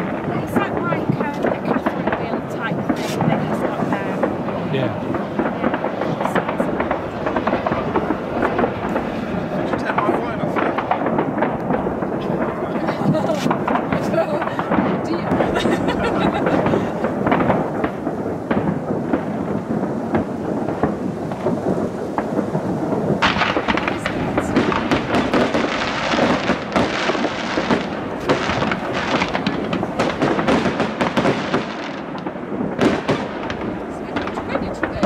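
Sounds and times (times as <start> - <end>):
fireworks bursts rumbling: 0.0 - 35.0
fireworks crackling: 0.0 - 35.0.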